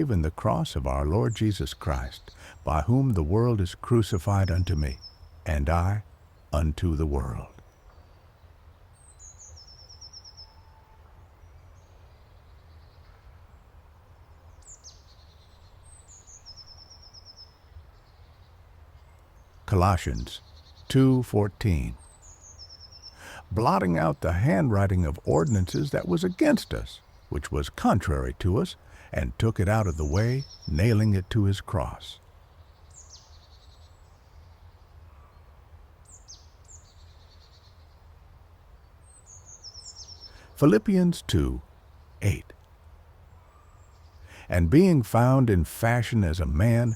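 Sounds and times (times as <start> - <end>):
outdoor nature ambience: 0.0 - 46.9
songbird singing: 0.0 - 46.9.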